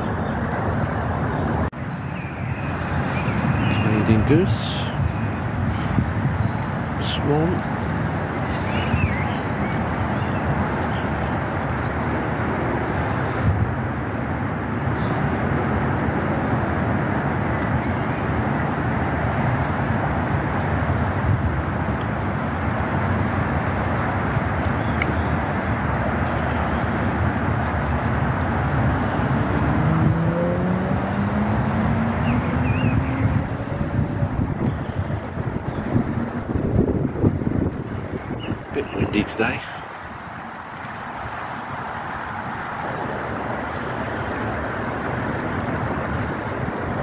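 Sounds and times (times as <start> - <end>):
steady rushing outdoor noise: 0.0 - 47.0.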